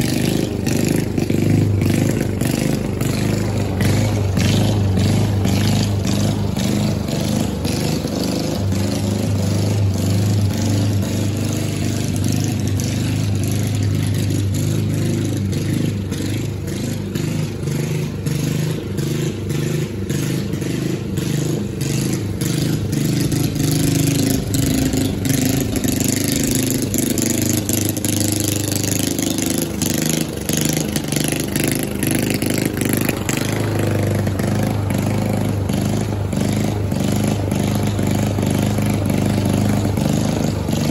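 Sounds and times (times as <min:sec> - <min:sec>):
lawn mower running: 0:00.0 - 0:40.9.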